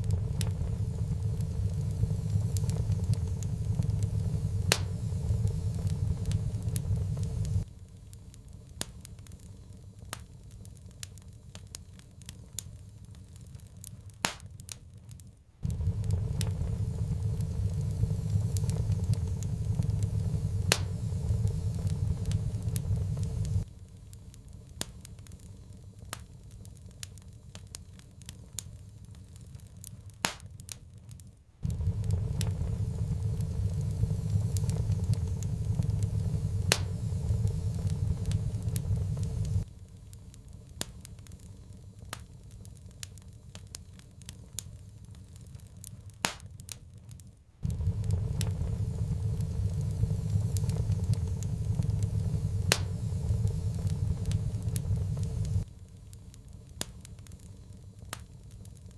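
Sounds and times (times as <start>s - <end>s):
low rumble of burning: 0.0s - 58.9s
wood fire crackling and popping: 0.0s - 58.9s.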